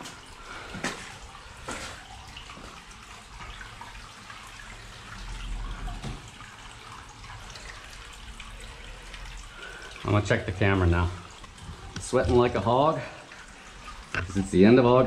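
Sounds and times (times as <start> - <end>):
stream trickling and dripping: 0.0 - 15.0.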